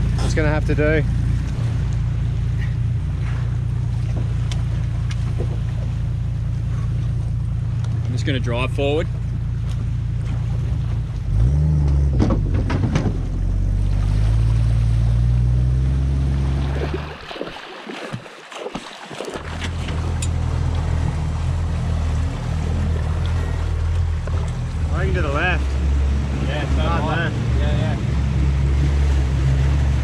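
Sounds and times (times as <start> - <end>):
outboard motor running: 0.0 - 30.0
water splashing: 0.0 - 30.0
wind: 0.0 - 30.0.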